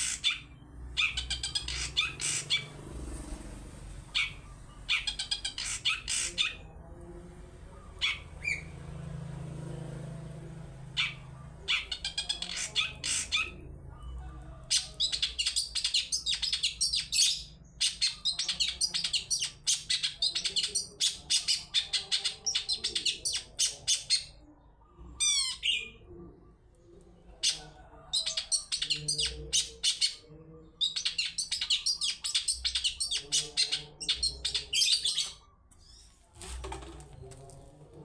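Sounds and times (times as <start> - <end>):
bird chirping song: 0.0 - 2.9, 4.0 - 7.0, 7.7 - 8.9, 10.8 - 36.3.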